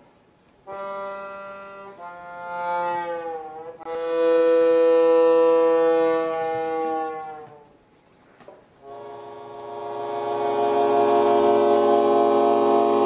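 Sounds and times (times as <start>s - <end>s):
accordion sustained chords: 0.6s - 7.2s, 8.8s - 13.0s.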